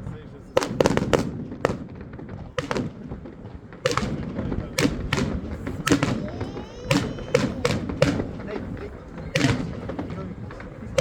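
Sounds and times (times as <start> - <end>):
background rumble: 0.0 - 11.0
firecrackers and rockets banging: 0.0 - 11.0.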